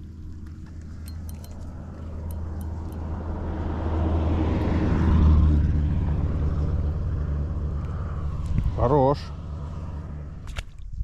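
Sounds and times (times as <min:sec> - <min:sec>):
low engine hum: 0:00.0 - 0:11.0
passing motor vehicle drone: 0:00.8 - 0:10.7.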